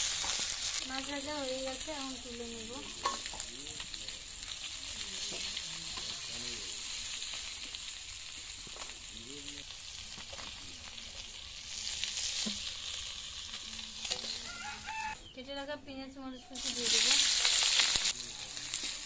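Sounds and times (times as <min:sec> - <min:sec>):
fish sizzling in hot oil: 0:00.0 - 0:15.2, 0:16.5 - 0:19.0.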